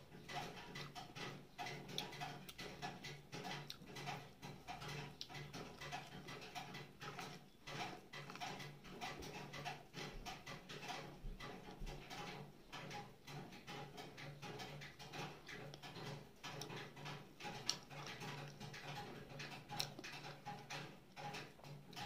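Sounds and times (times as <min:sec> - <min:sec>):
chewing corn: 0:00.0 - 0:22.0.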